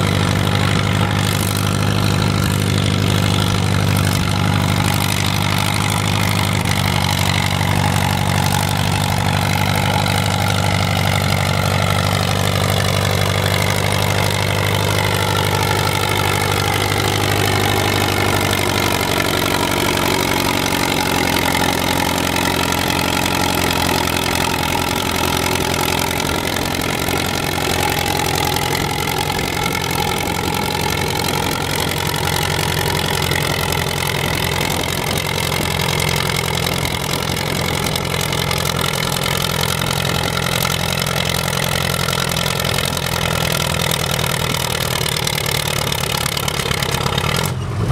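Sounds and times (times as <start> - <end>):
tractor engine running hard: 0.0 - 47.9.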